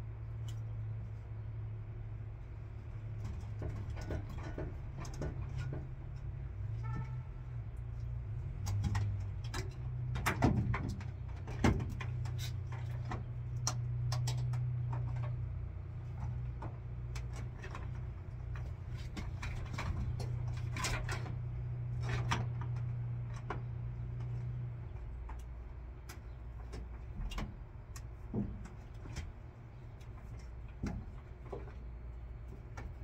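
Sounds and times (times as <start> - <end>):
small clicks and knocks: 3.1 - 33.0.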